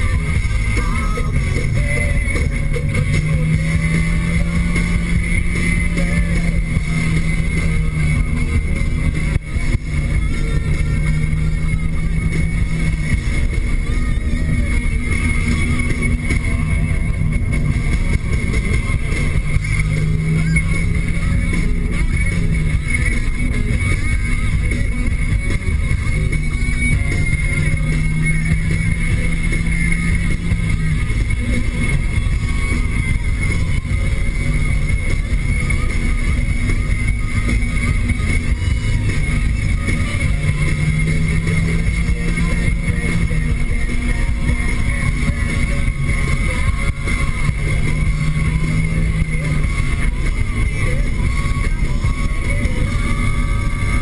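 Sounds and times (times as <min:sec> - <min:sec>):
car engine running steadily: 0:00.0 - 0:54.0
low drone: 0:00.0 - 0:54.0
tyre and road noise: 0:00.0 - 0:54.0.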